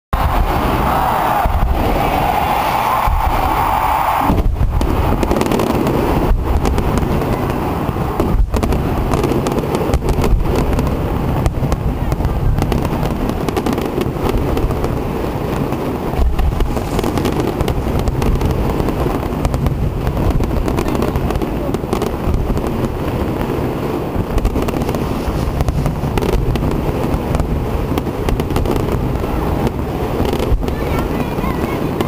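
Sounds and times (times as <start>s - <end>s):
fireworks booming and crackling: 0.1s - 32.0s.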